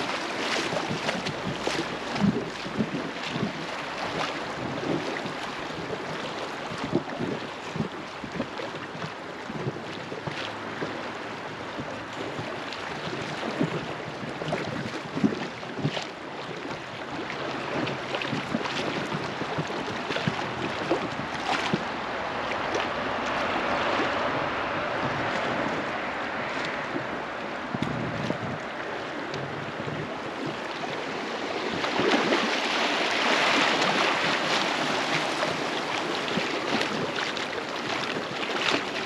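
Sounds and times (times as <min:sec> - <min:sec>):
river water lapping and splashing: 0:00.0 - 0:39.0.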